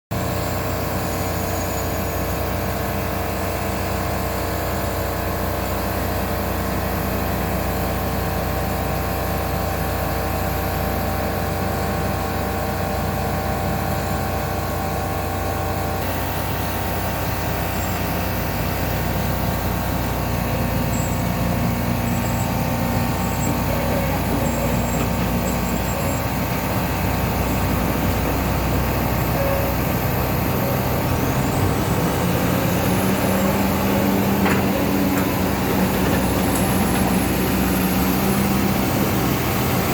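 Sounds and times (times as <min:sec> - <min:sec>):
excavator diesel engine running: 0:00.1 - 0:39.9.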